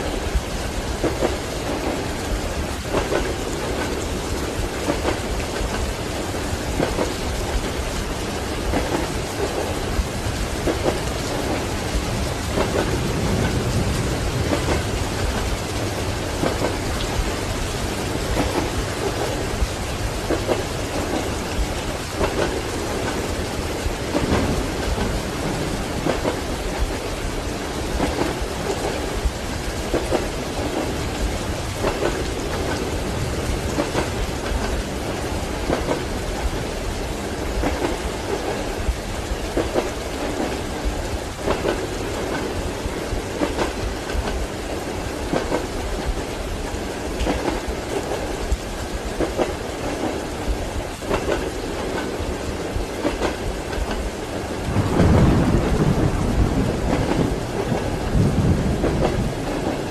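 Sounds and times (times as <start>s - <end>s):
low rumble of thunder: 0.0s - 44.5s, 50.0s - 59.9s
steady rain: 0.0s - 59.9s
train wheels clacking over rail joints: 0.0s - 59.9s.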